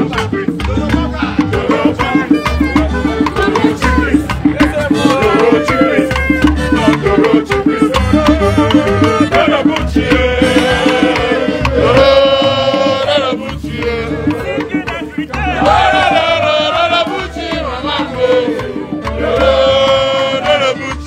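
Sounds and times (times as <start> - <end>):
fast drum and percussion: 0.0 - 21.0.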